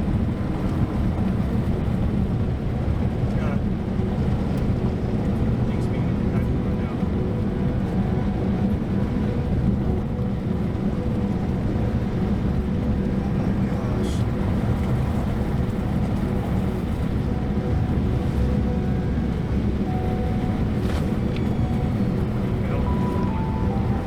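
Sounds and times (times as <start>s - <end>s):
vehicle road and engine rumble: 0.0s - 24.0s.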